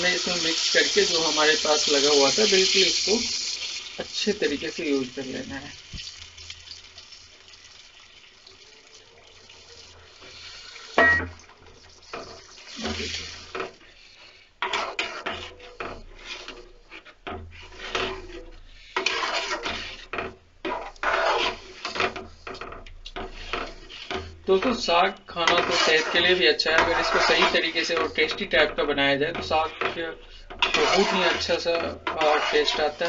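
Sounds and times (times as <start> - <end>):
metal ladle stirring in a pan: 0.0 - 33.0.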